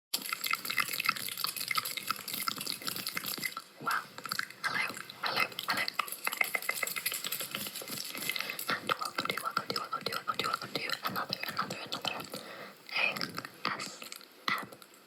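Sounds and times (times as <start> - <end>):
stomach gurgling: 0.1 - 15.0.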